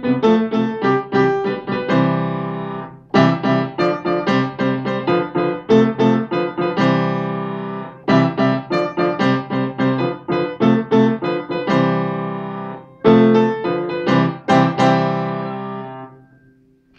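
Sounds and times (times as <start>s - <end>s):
upright piano quick runs: 0.0s - 16.8s
piano chords ringing out: 0.0s - 16.9s.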